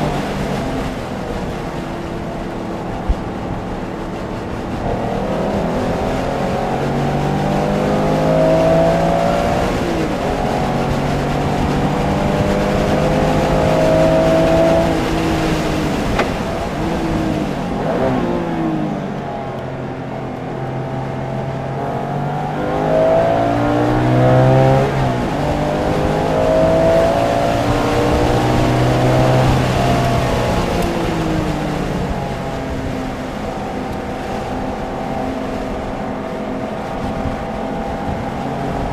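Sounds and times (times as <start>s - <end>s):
racing car engine revving: 4.4s - 19.6s, 20.3s - 38.9s.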